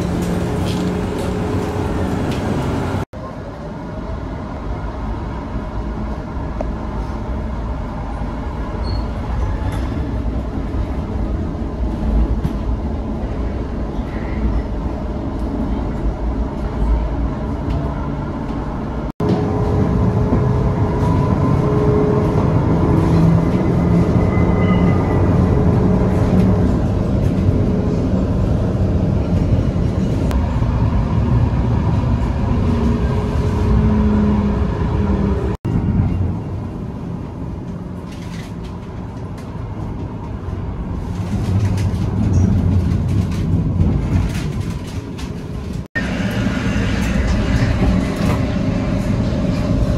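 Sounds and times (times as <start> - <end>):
tram drive whine: 0.0 - 49.9
tram wheels rumbling on rails: 0.0 - 49.9.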